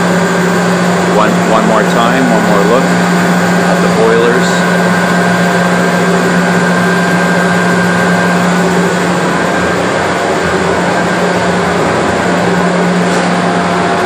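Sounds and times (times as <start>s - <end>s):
boiler burner and blower roaring: 0.0s - 14.0s
constant low hum: 0.0s - 14.0s.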